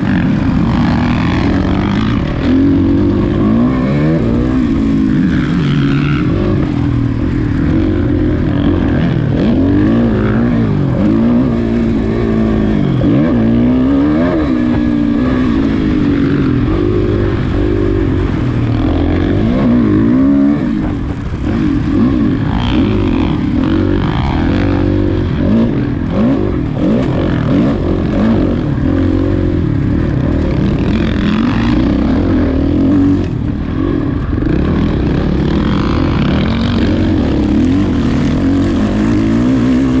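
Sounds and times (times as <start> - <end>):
motorbike engine revving: 0.0 - 40.0.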